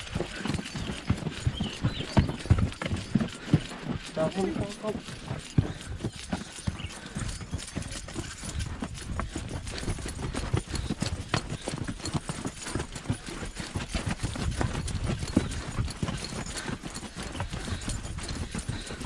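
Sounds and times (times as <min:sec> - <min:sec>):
horse hooves on rocky trail: 0:00.0 - 0:19.0.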